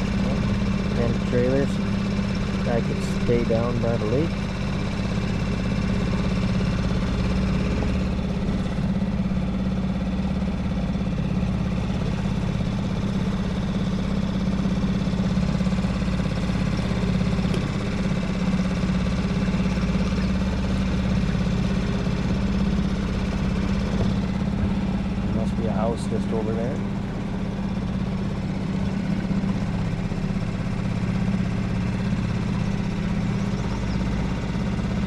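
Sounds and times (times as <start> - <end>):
boat motor humming: 0.0 - 35.0.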